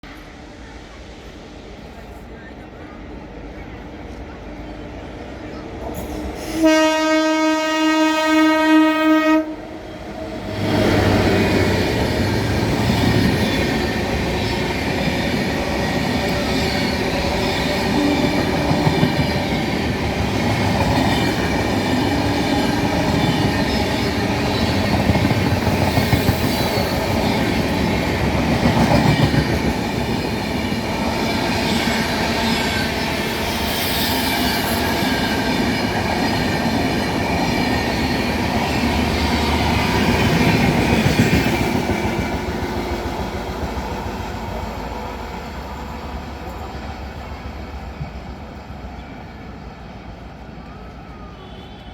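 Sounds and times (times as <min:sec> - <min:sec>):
train rumble: 0:00.0 - 0:51.9.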